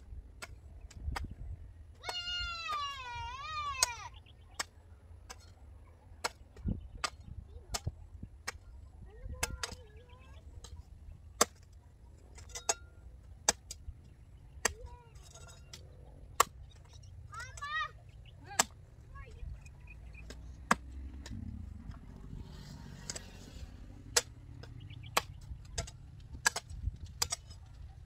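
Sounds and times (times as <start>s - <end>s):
hoes chopping into dry soil: 0.3s - 5.6s, 6.2s - 9.9s, 10.6s - 15.0s, 15.6s - 17.8s, 18.4s - 19.4s, 20.0s - 27.9s.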